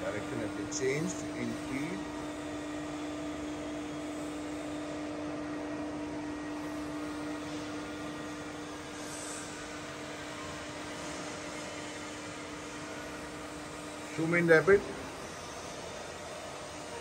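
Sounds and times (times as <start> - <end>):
milling machine motor hum: 0.0 - 17.0.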